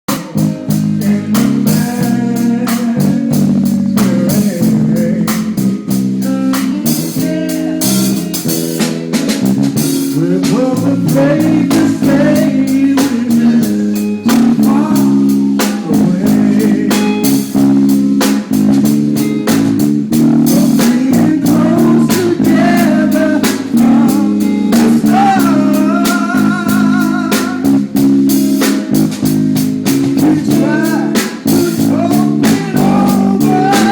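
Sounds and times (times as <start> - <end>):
person singing: 0.1 - 8.4, 10.0 - 17.8, 20.3 - 28.0, 30.0 - 33.9
blues guitar: 0.1 - 33.9
drum beat: 0.1 - 33.9.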